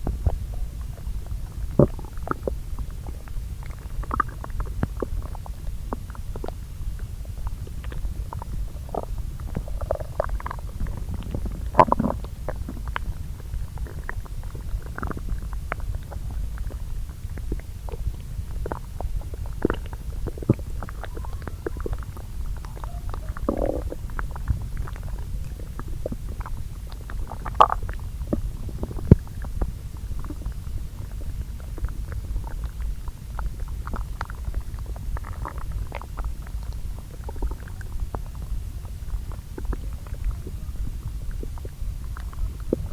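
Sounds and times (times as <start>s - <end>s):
low bowel rumble: 0.0s - 42.9s.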